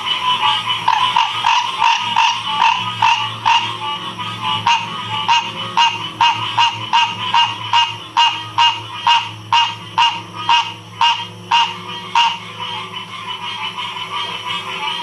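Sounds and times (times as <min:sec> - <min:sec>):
background frog chorus: 0:00.0 - 0:15.0
frog calling rhythmically: 0:00.0 - 0:15.0.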